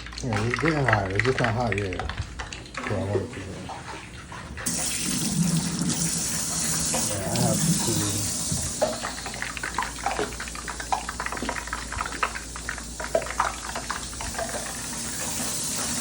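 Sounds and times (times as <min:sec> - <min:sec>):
tap water running: 0:00.0 - 0:16.0.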